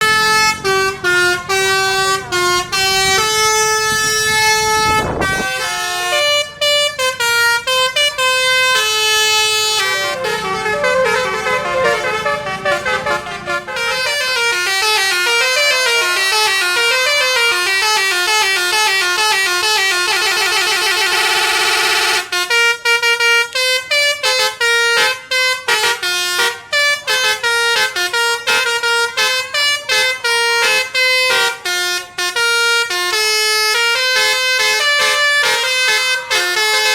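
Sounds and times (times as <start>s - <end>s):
multi-tone musical bus horn: 0.0s - 36.9s.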